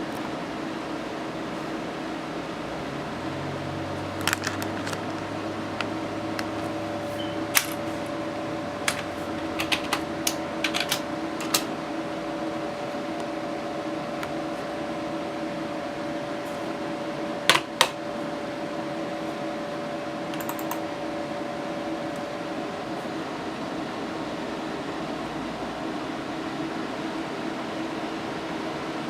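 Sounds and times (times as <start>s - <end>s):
computer cooling fans humming: 0.0s - 29.0s.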